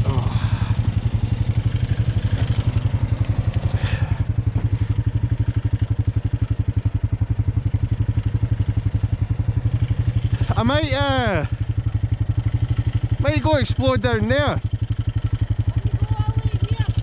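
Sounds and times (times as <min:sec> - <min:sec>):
quad bike engine idling: 0:00.0 - 0:17.0.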